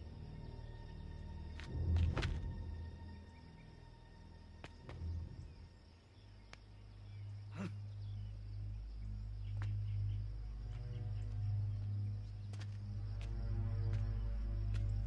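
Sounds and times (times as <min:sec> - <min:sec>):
low droning film score: 0:00.0 - 0:15.0.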